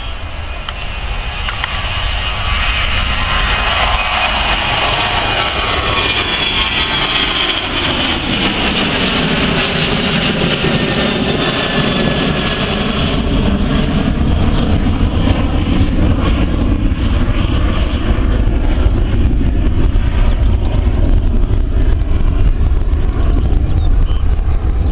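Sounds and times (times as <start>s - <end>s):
jet engines roaring at takeoff: 0.0s - 24.9s.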